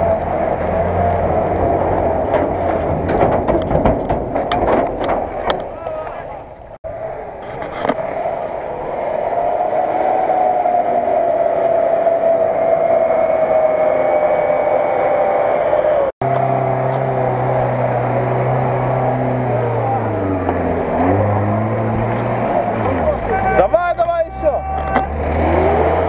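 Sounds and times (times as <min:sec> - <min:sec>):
off-road engines revving: 0:00.0 - 0:26.0.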